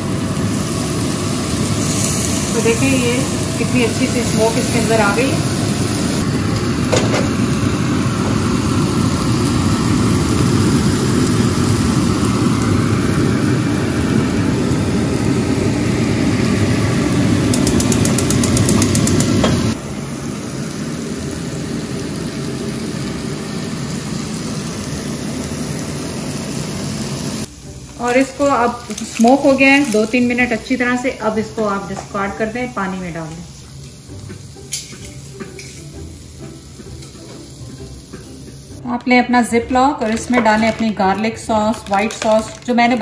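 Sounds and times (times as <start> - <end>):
meat sizzling on grill pan: 0.0 - 38.8.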